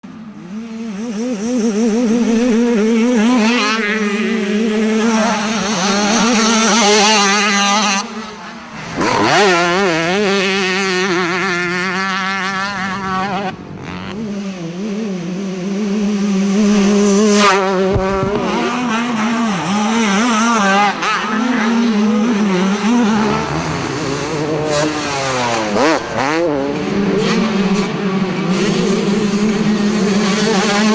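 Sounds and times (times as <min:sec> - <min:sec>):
motocross bike engines revving: 0:00.0 - 0:30.9.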